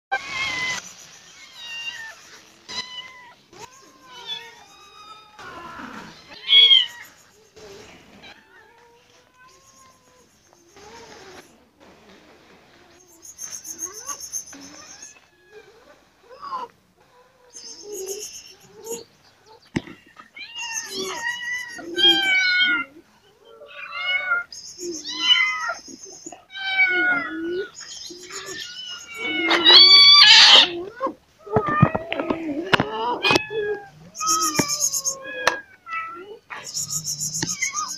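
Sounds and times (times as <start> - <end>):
cats meowing: 0.1 - 0.8, 1.4 - 11.5, 13.0 - 37.9.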